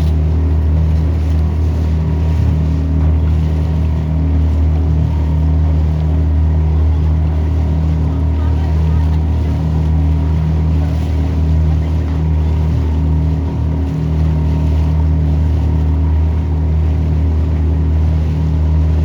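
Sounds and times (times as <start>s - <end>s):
motorboat engine drone: 0.0s - 19.0s
water and wind noise: 0.0s - 19.0s.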